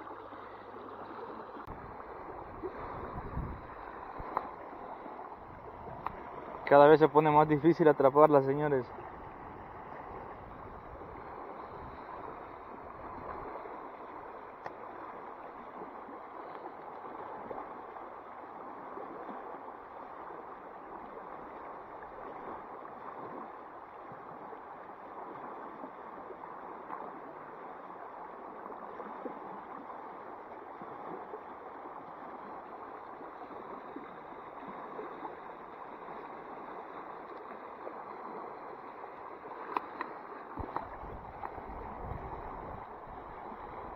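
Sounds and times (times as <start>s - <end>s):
creek water flowing: 0.0s - 43.9s.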